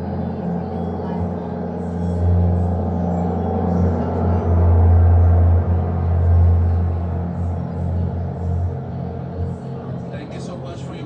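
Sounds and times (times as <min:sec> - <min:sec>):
low ambient drone: 0:00.0 - 0:11.0
sustained electronic tones: 0:00.0 - 0:11.0.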